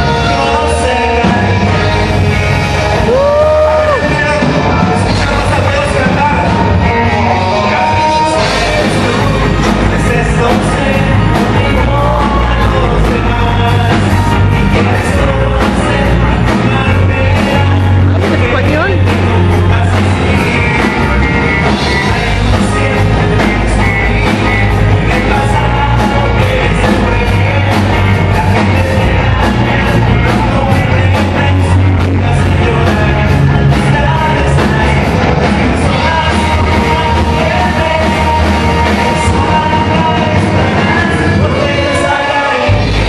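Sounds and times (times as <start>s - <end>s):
live rock band playing: 0.0s - 43.0s
man singing into microphone: 0.0s - 43.0s.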